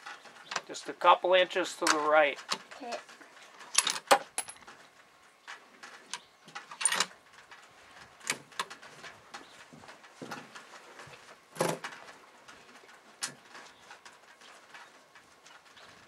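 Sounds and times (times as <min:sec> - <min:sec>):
faint clicks and knocks: 0:00.0 - 0:16.0.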